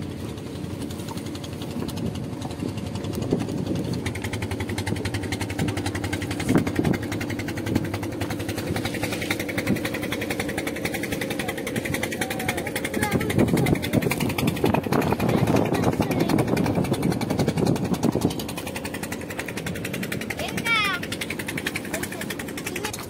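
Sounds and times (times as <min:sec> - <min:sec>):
boat engine idling: 0:00.0 - 0:23.0.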